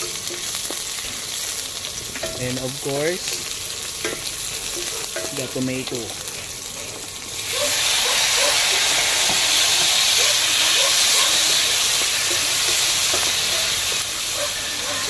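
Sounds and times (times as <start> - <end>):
food frying sizzle: 0.0 - 15.0.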